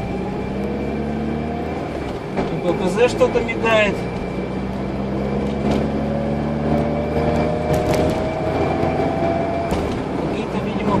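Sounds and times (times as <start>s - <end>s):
car engine running: 0.0s - 11.0s
road noise inside car: 0.0s - 11.0s.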